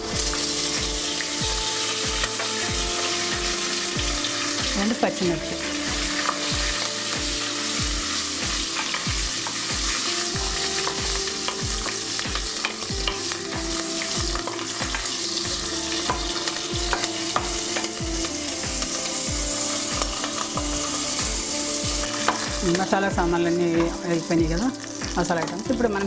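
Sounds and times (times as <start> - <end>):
hot oil sizzling: 0.0 - 26.0.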